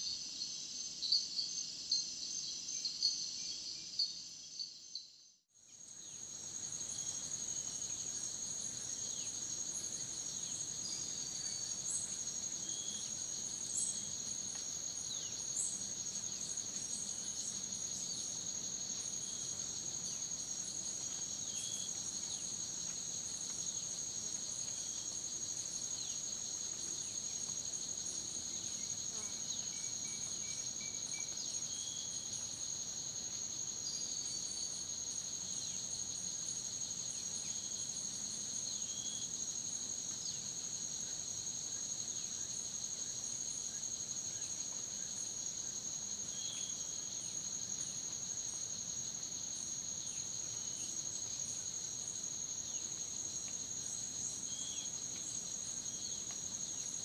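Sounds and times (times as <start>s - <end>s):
insect chirps: 0.0s - 57.0s
insect drone: 0.0s - 57.0s.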